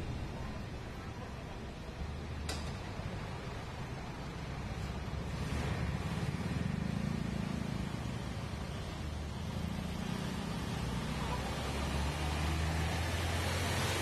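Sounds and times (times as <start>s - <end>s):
low engine drone of traffic: 0.0s - 14.0s.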